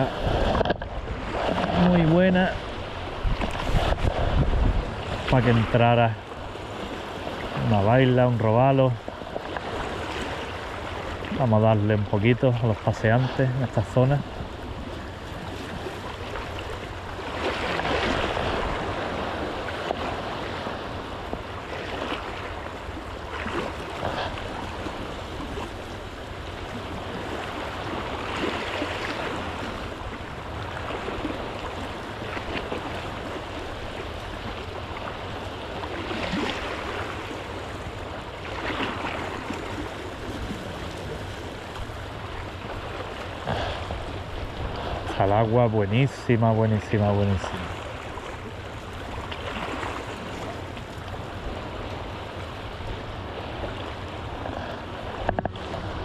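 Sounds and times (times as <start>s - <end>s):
waves splashing over rocks: 0.0s - 56.0s.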